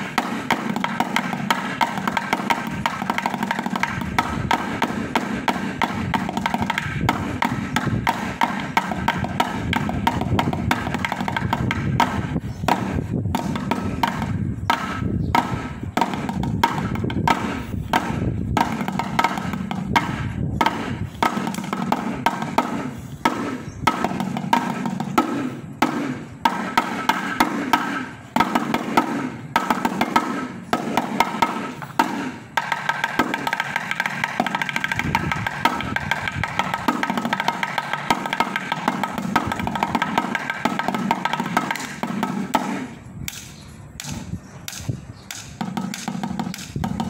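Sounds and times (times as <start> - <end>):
sticks drumming on buckets and cans: 0.0 - 47.0.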